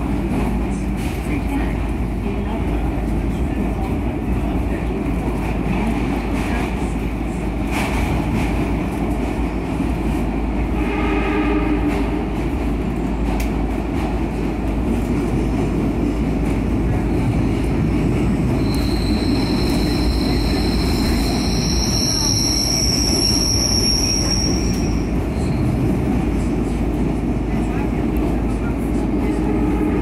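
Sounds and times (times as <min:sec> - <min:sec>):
subway car rumble in tunnel: 0:00.0 - 0:30.0.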